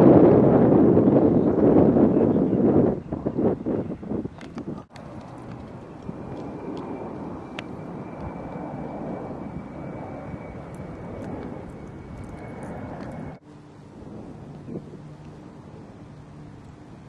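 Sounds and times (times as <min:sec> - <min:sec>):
aircraft rushing rumble: 0:00.0 - 0:17.0
faint high whine: 0:01.1 - 0:17.0.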